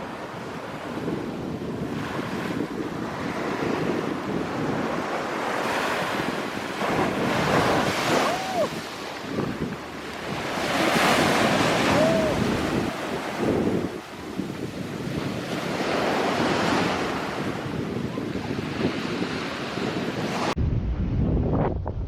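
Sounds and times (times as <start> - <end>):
waves breaking on beach: 0.0 - 20.6
wind buffeting microphone: 0.0 - 22.0.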